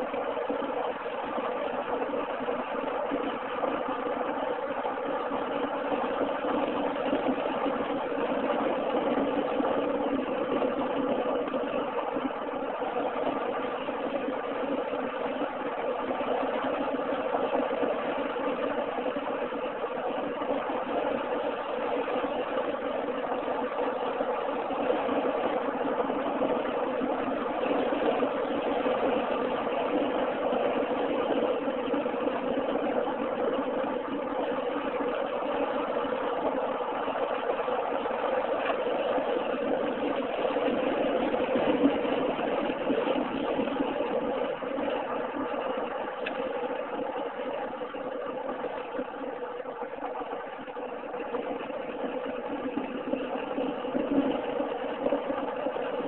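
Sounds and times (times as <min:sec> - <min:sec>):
car engine and tyre drone: 0:00.0 - 0:56.0.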